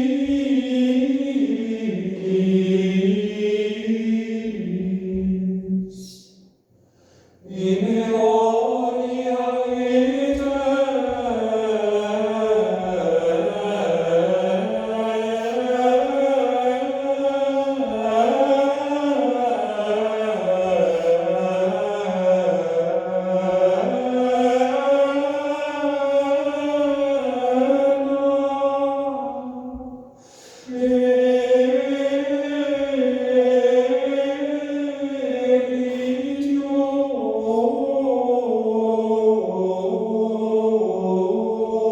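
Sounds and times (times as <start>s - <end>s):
choir singing sustained chords: 0.0s - 6.3s, 7.4s - 41.9s.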